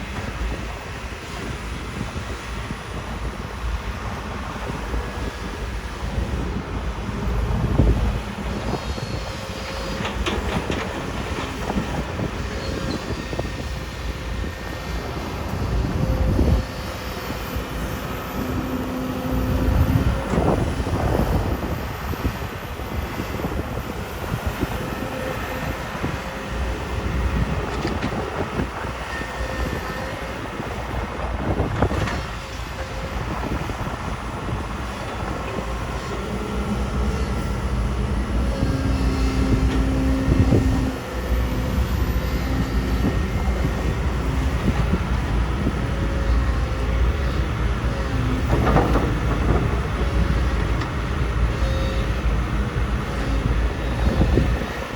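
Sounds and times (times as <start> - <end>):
excavator diesel engine under load: 0.0 - 54.9.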